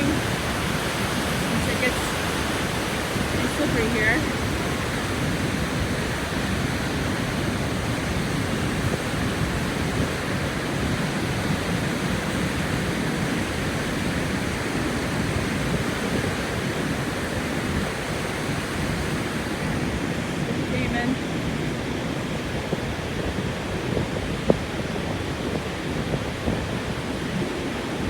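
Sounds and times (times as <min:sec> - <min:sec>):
roar of falling water: 0:00.0 - 0:28.0.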